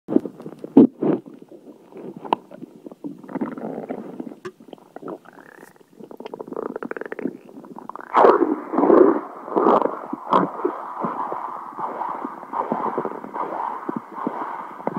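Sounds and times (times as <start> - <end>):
stomach gurgling: 0.1 - 14.9.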